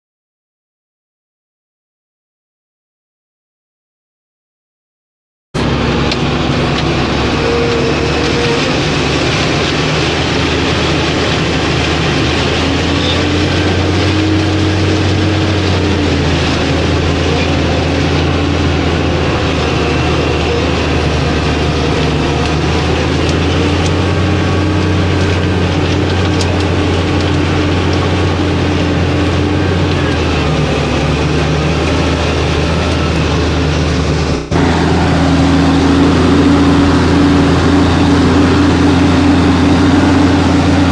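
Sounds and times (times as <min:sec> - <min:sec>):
tractor diesel engine running: 0:05.6 - 0:40.9.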